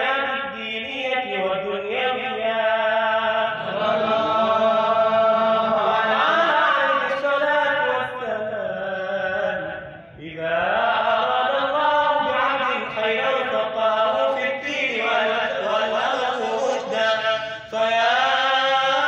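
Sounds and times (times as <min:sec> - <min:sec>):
man chanting into microphone: 0:00.0 - 0:19.0.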